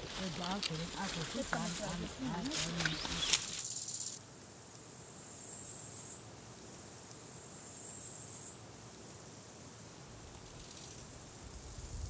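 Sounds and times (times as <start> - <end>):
buzzing insect trills: 0.0 - 12.0
low steady hiss: 0.0 - 12.0.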